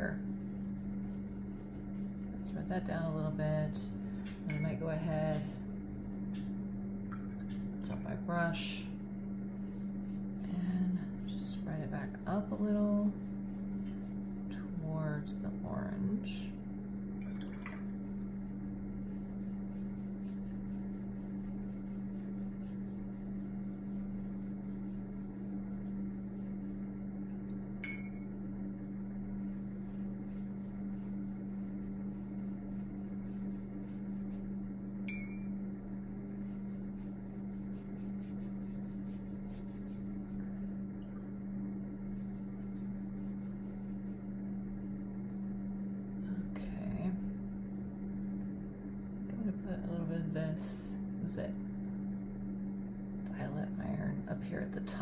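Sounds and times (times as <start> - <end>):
low appliance hum: 0.0 - 55.0.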